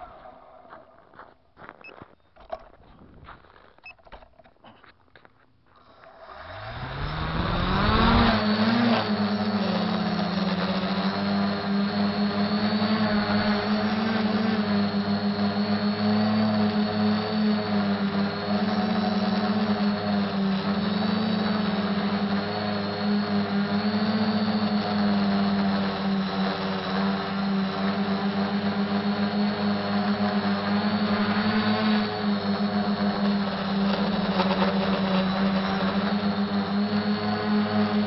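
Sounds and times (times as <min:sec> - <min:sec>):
quadcopter motors humming: 0:00.0 - 0:01.2, 0:05.8 - 0:38.0.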